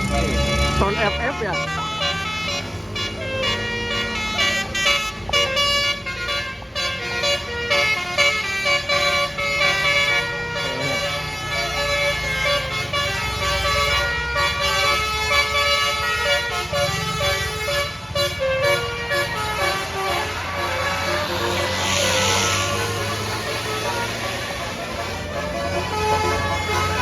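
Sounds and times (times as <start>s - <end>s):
bus engine rumble: 0.0s - 27.0s
musical air horn tune: 0.0s - 27.0s.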